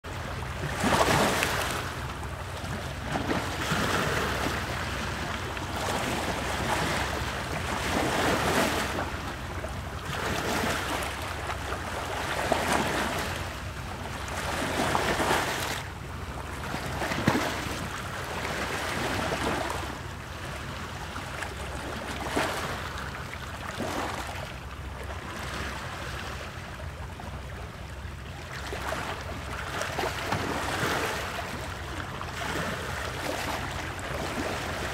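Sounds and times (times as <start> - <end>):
ocean waves breaking: 0.0 - 34.9.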